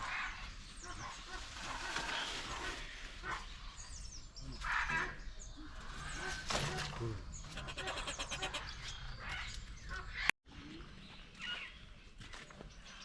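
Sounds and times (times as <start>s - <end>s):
harsh bird calls: 0.0s - 10.8s.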